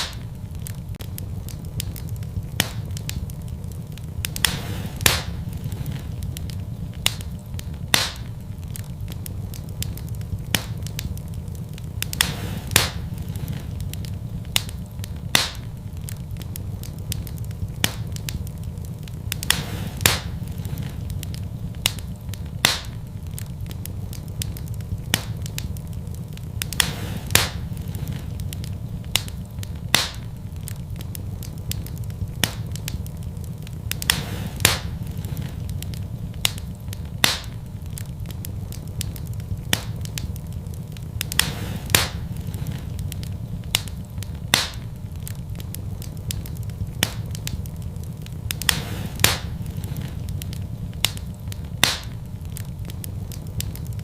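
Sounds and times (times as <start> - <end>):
fire pops and snaps: 0.0 - 54.0
wood fire crackling: 0.0 - 54.0.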